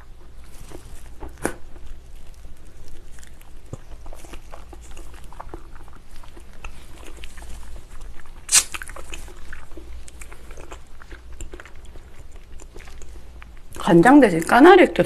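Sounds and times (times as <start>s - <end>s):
sucking on meat: 0.0s - 13.8s
wet chewing and lip smacks: 0.0s - 14.6s.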